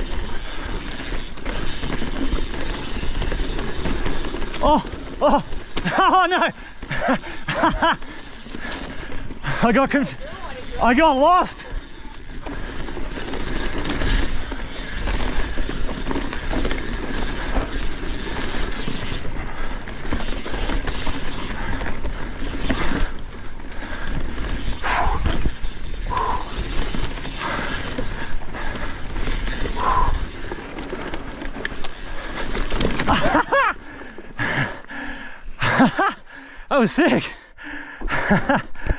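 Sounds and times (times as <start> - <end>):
tyres rumbling over dirt: 0.0 - 34.8
bike chain and frame rattling: 0.0 - 36.6.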